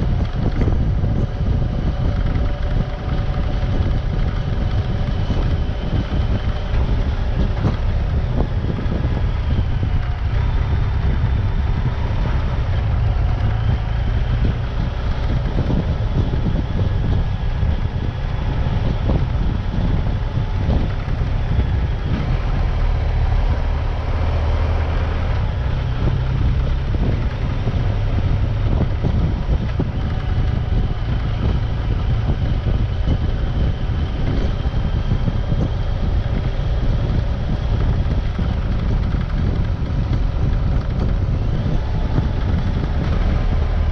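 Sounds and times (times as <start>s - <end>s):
off-road vehicle engine: 0.0s - 43.9s
wind on microphone: 0.0s - 43.9s.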